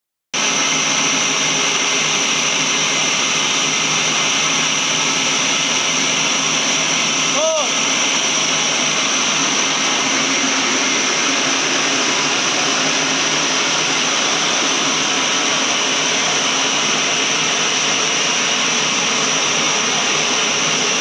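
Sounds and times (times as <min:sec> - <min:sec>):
band sawmill whine: 0:00.4 - 0:21.0.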